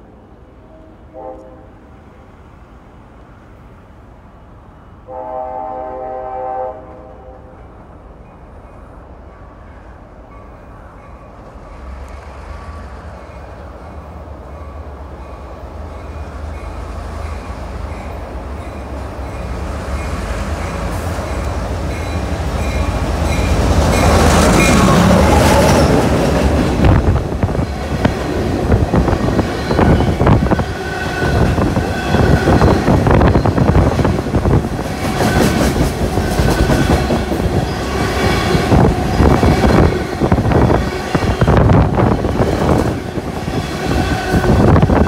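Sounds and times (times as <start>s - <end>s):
freight train passing: 0.0s - 45.0s.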